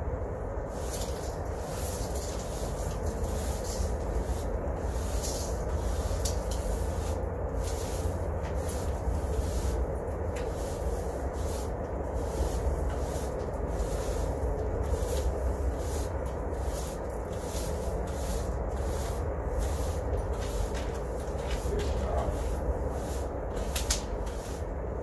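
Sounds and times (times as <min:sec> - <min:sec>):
steady low rumble: 0:00.0 - 0:25.0
brooms sweeping concrete: 0:00.6 - 0:25.0.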